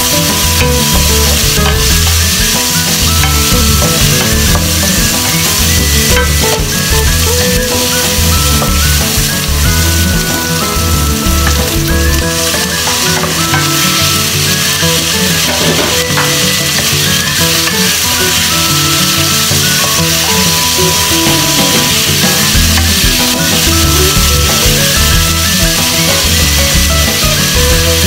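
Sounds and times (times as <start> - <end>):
background music: 0.0 - 28.0
food sizzling in hot oil: 0.0 - 28.0
wooden spatula stirring: 0.0 - 28.0.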